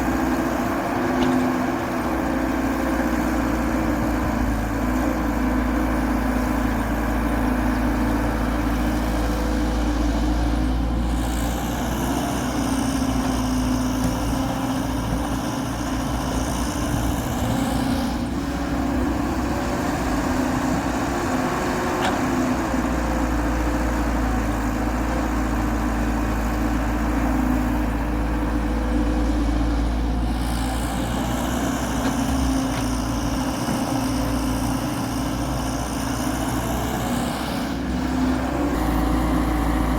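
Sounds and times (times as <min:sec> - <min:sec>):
excavator diesel engine working: 0:00.0 - 0:39.9.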